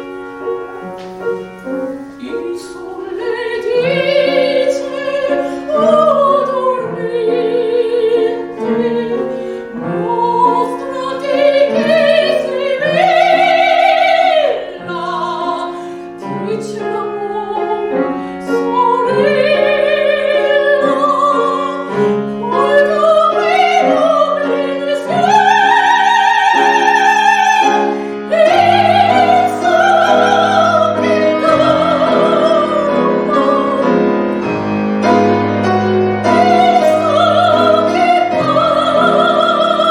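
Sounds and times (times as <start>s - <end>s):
piano accompaniment: 0.0s - 39.9s
soprano singing with vibrato: 2.0s - 39.9s.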